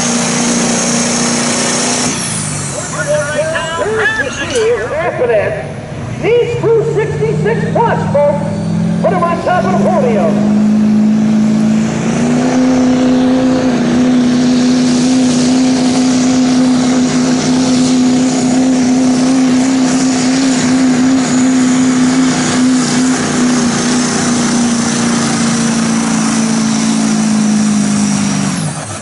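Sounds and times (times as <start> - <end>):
diesel engine at high revs: 0.0 - 29.0.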